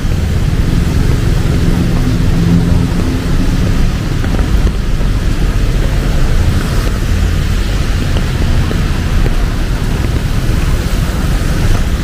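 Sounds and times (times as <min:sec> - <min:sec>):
low rumble of engines: 0:00.0 - 0:12.0
rain and wet tyres hissing: 0:00.0 - 0:12.0.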